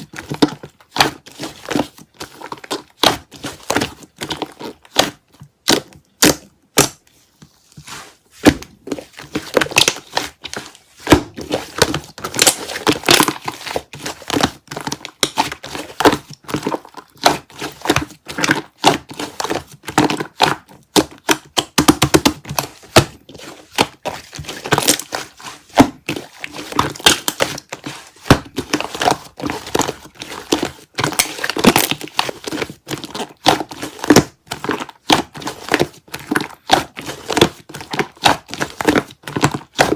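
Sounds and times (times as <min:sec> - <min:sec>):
slime squelching and popping: 0:00.0 - 0:07.0, 0:07.8 - 0:39.9.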